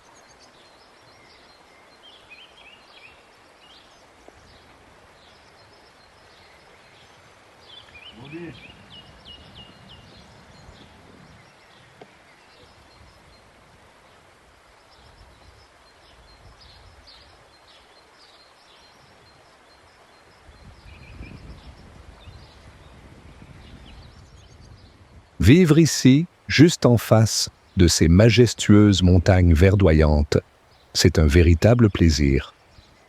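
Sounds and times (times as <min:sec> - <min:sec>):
faint outdoor background noise: 0:00.0 - 0:33.0
small birds chirping: 0:00.0 - 0:33.0.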